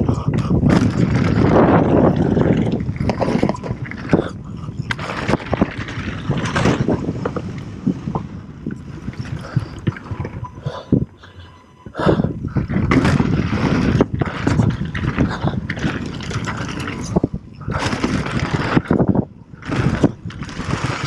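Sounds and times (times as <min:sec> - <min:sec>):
bike chain and frame rattling: 0:00.0 - 0:21.0
tyres rolling on loose dirt: 0:00.0 - 0:21.0
wind rushing over microphone: 0:00.0 - 0:21.0.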